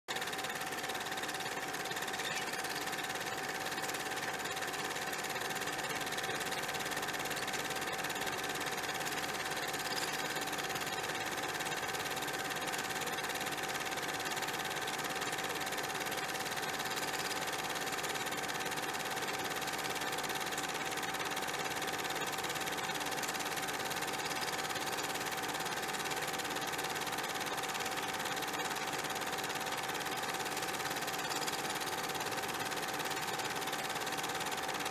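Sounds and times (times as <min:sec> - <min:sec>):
machine whirring with high hum: 0:00.1 - 0:34.9.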